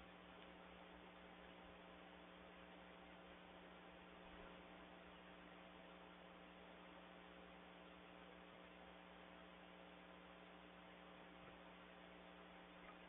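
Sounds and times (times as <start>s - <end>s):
faint electrical hum: 0.0s - 13.0s
low recording hiss: 0.0s - 13.0s.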